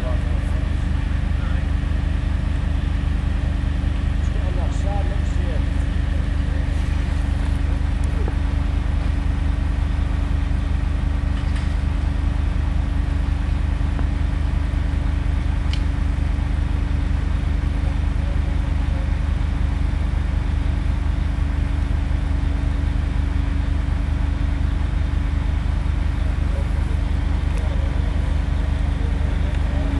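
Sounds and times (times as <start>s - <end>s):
large engine idling: 0.0s - 29.9s.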